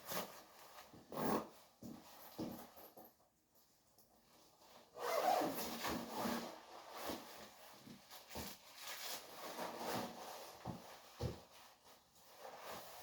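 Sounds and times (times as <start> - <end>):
rustling and handling noises: 0.0 - 13.0.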